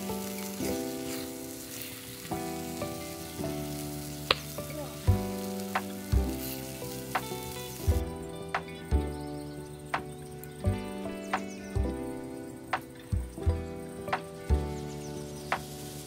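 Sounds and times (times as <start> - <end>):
food sizzling in a pan: 0.0 - 13.0, 13.8 - 16.0
background music with slow chords: 0.0 - 16.0.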